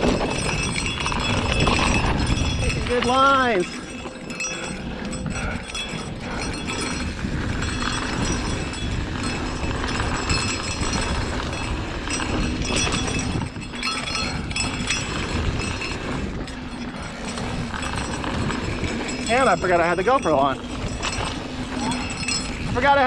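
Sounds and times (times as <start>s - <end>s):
bike chain and frame rattling: 0.0s - 23.0s
bike tyres skittering on dirt: 0.0s - 23.0s.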